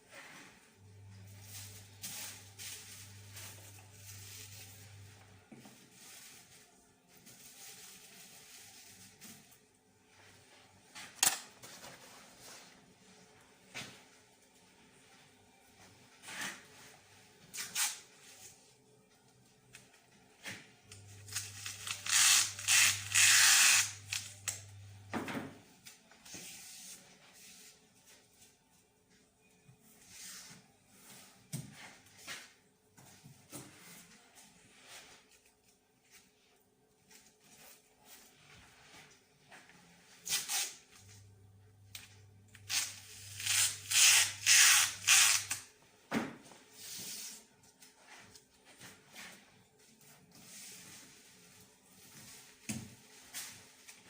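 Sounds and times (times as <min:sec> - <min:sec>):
low electric hum: 0:00.0 - 0:54.0.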